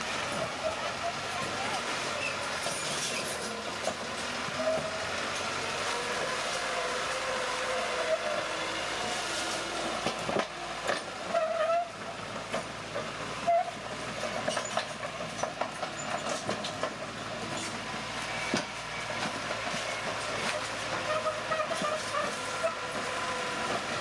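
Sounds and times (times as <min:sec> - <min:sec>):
bulldozer engine: 0:00.0 - 0:24.0
steel tracks clanking: 0:00.0 - 0:24.0
track gear squealing: 0:00.0 - 0:24.0.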